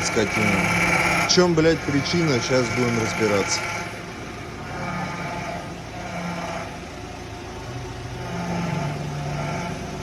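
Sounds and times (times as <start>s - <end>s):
engine running: 0.0s - 10.0s
power-steering pump humming: 0.0s - 10.0s.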